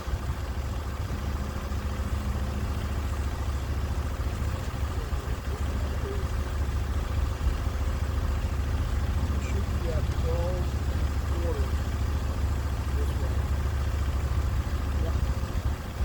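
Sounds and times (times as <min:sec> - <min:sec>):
sawmill engine rumbling: 0:00.0 - 0:16.0.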